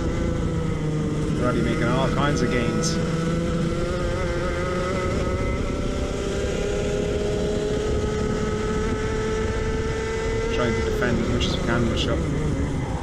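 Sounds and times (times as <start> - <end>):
go-kart engine at high revs: 0.0 - 13.0.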